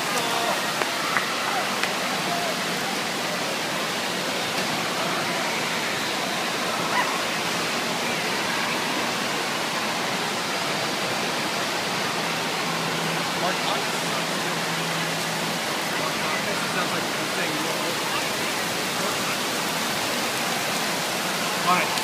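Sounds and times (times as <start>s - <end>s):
faint crowd murmur: 0.0s - 22.0s
water rushing: 0.0s - 22.0s
waves breaking in pool: 0.0s - 22.0s.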